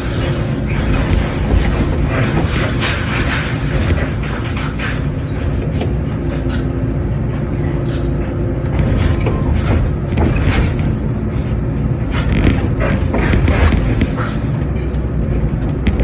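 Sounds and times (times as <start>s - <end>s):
broken concrete crunching and knocking: 0.0s - 6.0s, 8.8s - 16.0s
diesel engine running under load: 0.0s - 16.0s.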